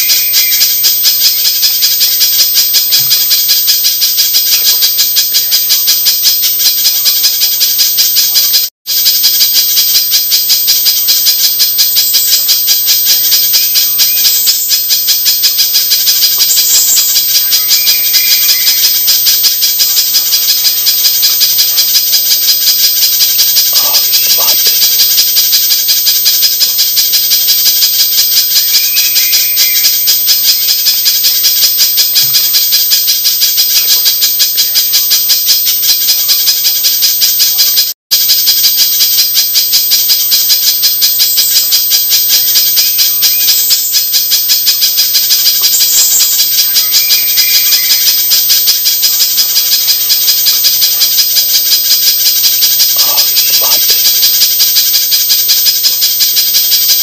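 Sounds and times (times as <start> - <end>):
bird calling rapid high chips: 0.0 - 34.8, 40.1 - 57.0.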